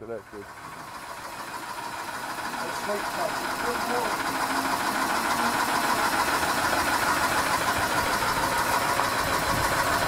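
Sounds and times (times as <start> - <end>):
small generator engine running: 0.0 - 10.0.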